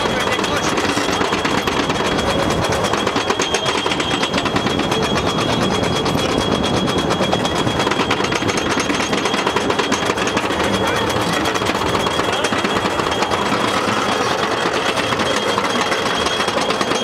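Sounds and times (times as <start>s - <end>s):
lift chain clacking: 0.0s - 17.0s.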